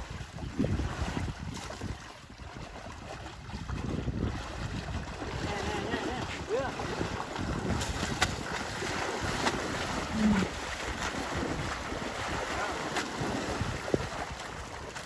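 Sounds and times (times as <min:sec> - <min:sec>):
water splashing and sloshing: 0:00.0 - 0:15.0
wind buffeting microphone: 0:00.0 - 0:15.0.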